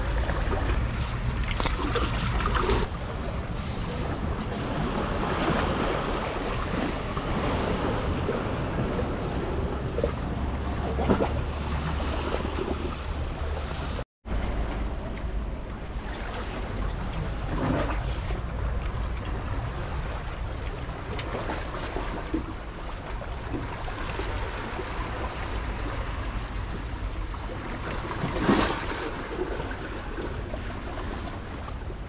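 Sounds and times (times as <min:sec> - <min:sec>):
waves breaking against rocks: 0:00.0 - 0:32.0
wind rumble on microphone: 0:00.0 - 0:32.0.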